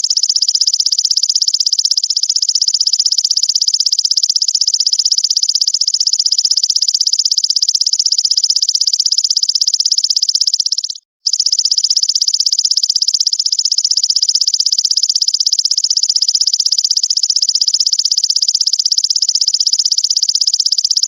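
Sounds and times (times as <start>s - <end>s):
insect trill: 0.1s - 21.0s.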